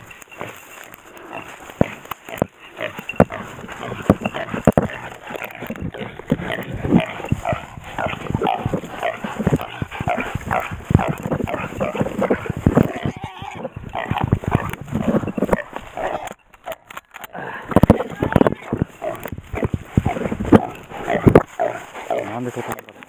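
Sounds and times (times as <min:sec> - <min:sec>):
animal cries and grunts: 0:00.0 - 0:22.9.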